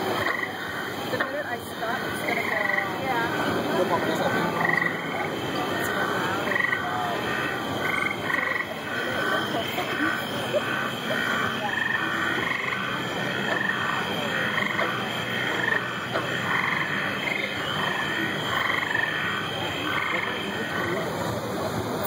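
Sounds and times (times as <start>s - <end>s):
frogs croaking: 0.0s - 22.0s
waterfalls rushing: 0.0s - 22.0s.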